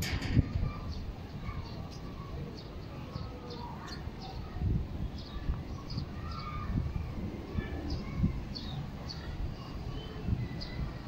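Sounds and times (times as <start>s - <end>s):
low gusty rumble: 0.0s - 11.0s
small birds chirping: 0.0s - 11.0s.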